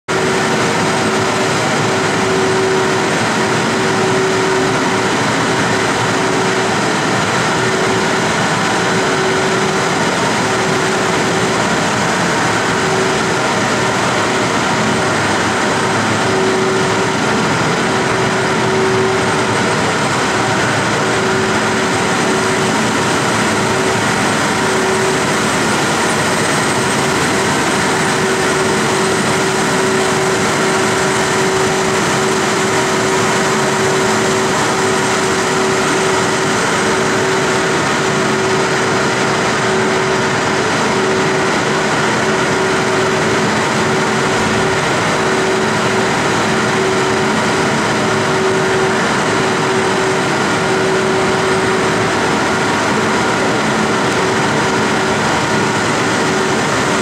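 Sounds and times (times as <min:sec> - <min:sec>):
boiler machinery hum and hiss: 0:00.1 - 0:57.0.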